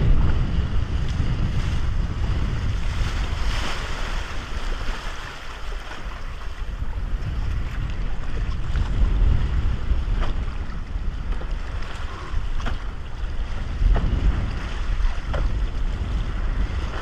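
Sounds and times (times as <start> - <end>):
water rushing along a hull: 0.0 - 17.0
wind buffeting microphone: 0.0 - 17.0.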